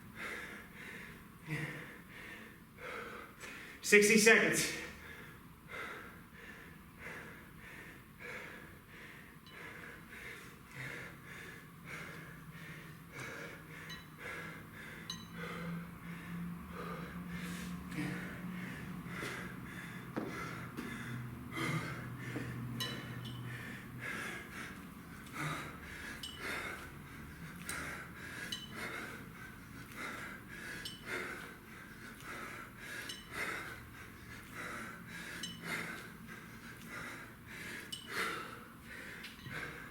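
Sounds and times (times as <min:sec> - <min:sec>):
man breathing hard: 0:00.0 - 0:03.8, 0:04.7 - 0:39.9.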